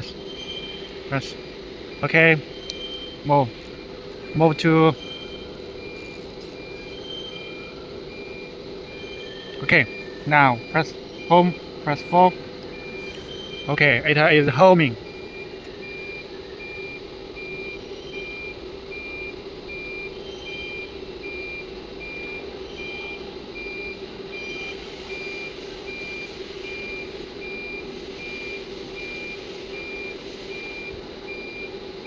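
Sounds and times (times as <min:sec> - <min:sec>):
high warning beeps: 0:00.0 - 0:32.0
machine hum: 0:00.0 - 0:32.0.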